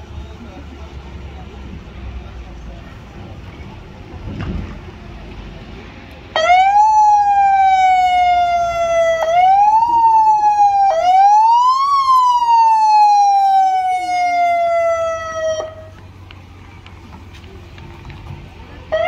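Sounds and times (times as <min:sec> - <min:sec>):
faint street sound: 0:00.0 - 0:19.0.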